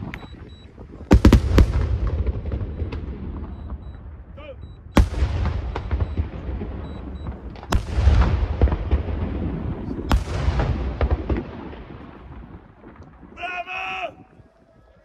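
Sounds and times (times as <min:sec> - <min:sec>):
firework bangs: 0:00.0 - 0:13.4
firework rumble: 0:00.0 - 0:13.4.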